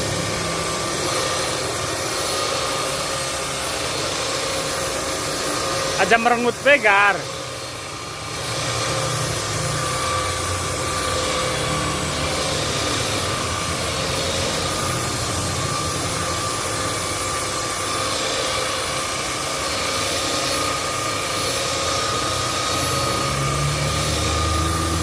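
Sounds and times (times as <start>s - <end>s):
electric sander whining: 0.0s - 25.0s.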